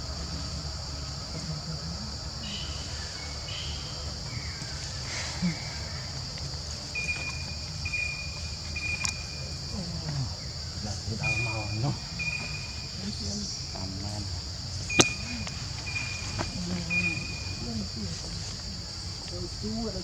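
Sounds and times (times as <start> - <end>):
insects droning: 0.0 - 20.0
low outdoor rumble: 0.0 - 20.0.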